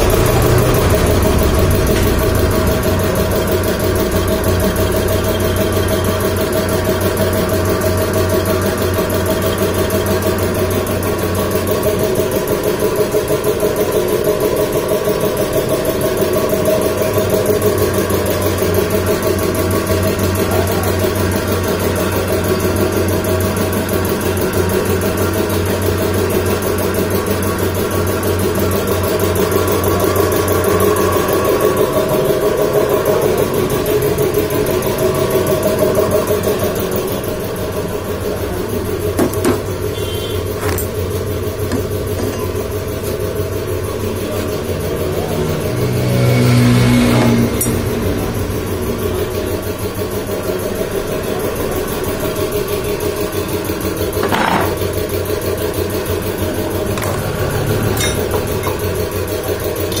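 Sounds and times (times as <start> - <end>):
air compressor running: 0.0 - 60.0.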